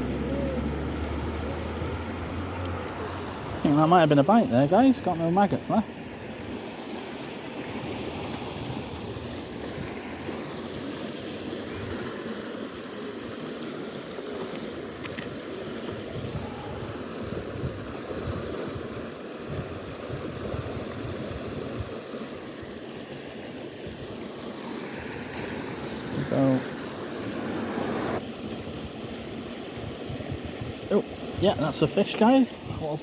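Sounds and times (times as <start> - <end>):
sea water rushing past rocks: 0.0 - 33.0.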